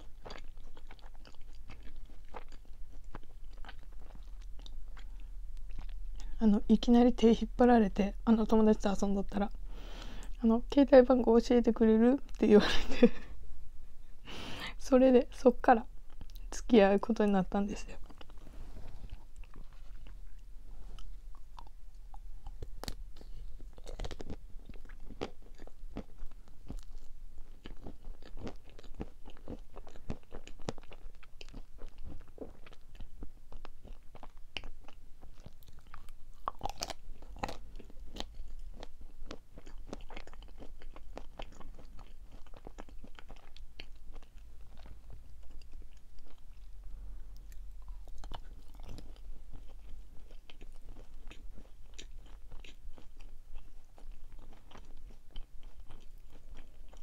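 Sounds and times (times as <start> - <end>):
biting and chewing sweets: 0.0 - 7.1, 15.8 - 16.6, 17.2 - 57.0.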